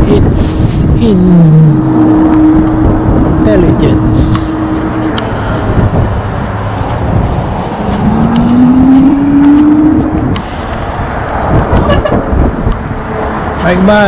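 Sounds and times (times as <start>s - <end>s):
road and wind noise: 0.0s - 14.0s
traffic: 0.0s - 14.0s
vehicle engine rising in pitch: 0.3s - 14.0s.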